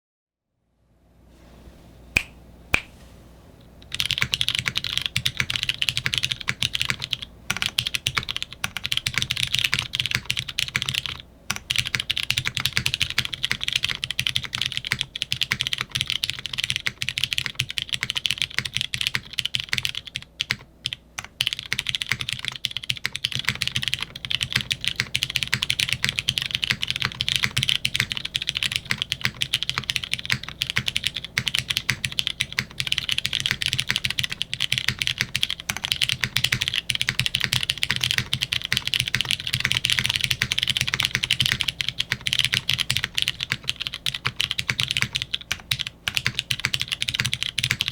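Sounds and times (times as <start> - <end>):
fast typing on mechanical keyboard: 3.8 - 47.9.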